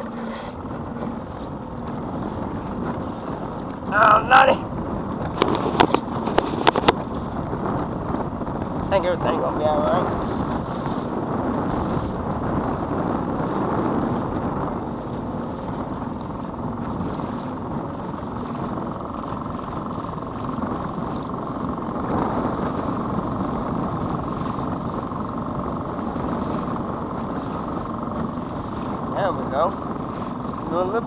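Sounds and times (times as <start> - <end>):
outboard motor running: 0.0 - 31.0
waves splashing against hull: 0.0 - 31.0.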